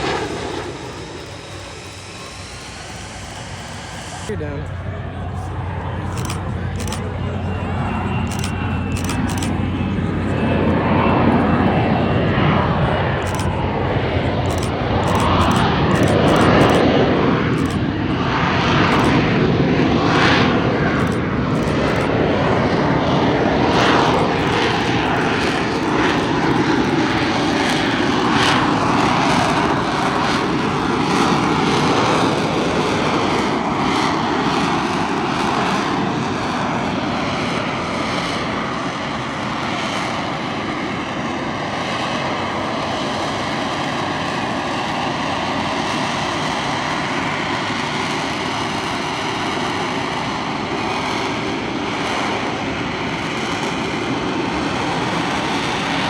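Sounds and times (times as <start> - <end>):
aircraft engine roar: 0.0 - 56.0.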